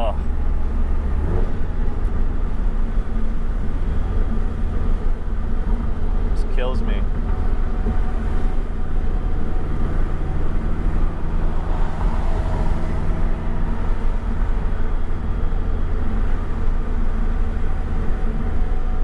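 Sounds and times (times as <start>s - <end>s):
car engine idling at low revs: 0.0s - 19.0s.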